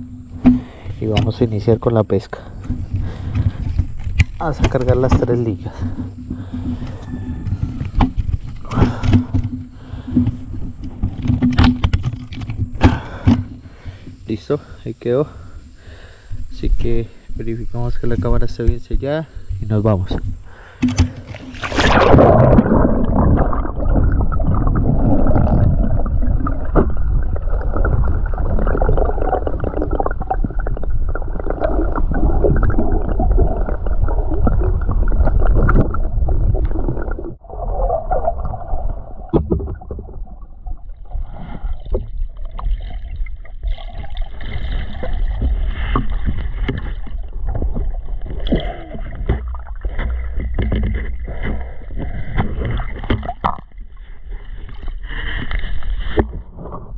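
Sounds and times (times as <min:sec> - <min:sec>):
muffled underwater rumble: 0:00.0 - 0:14.7, 0:15.3 - 0:56.9
gurgling water: 0:00.0 - 0:56.9.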